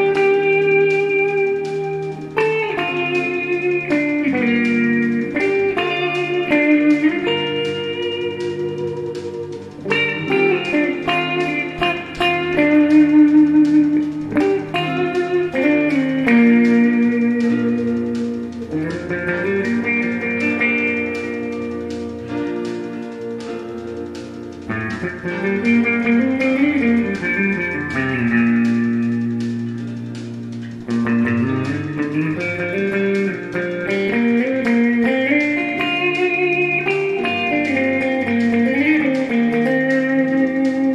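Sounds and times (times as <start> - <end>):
slow plucked guitar music: 0.0 - 40.9.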